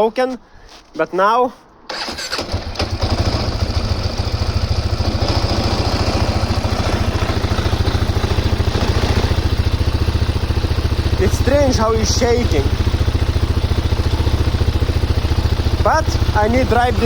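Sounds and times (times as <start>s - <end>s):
quad bike engine idling: 1.9s - 17.0s.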